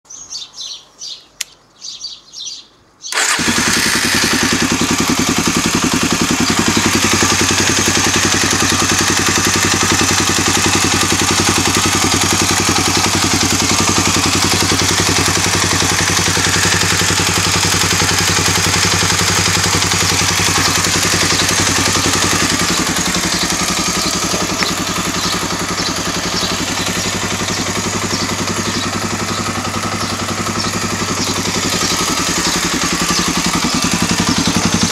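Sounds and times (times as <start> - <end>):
motorcycle engine idling: 3.1 - 34.9.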